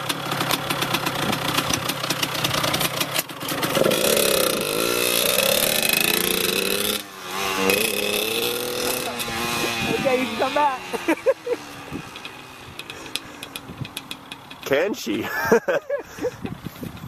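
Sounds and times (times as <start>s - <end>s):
dirt bike engine revving: 0.0s - 15.7s.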